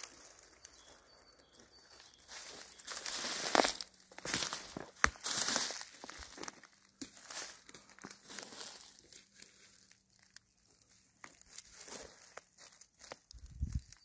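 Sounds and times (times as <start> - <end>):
footsteps through dry leaves: 0.0 - 14.0.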